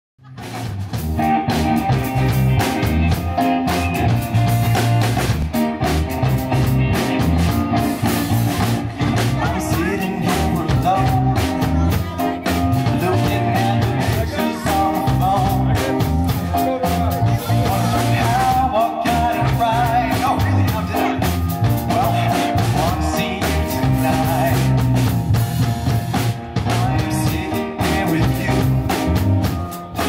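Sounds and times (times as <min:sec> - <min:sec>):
rock band playing live: 0:00.2 - 0:30.0.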